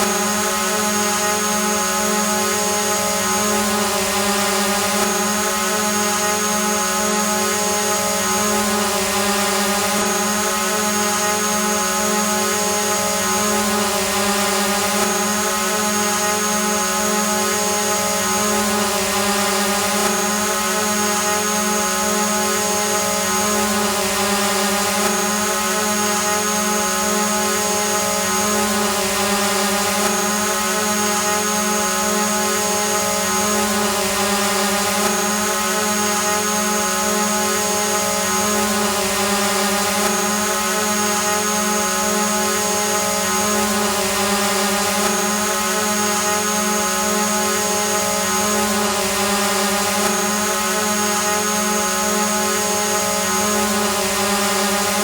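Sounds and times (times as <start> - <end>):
drone propeller whine: 0.0 - 55.0.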